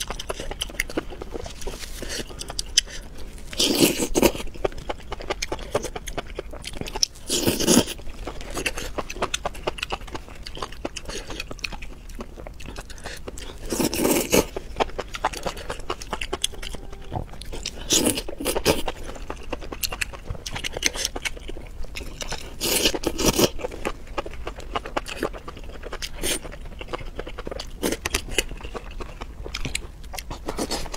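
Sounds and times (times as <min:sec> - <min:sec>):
person chewing: 0:00.0 - 0:30.9.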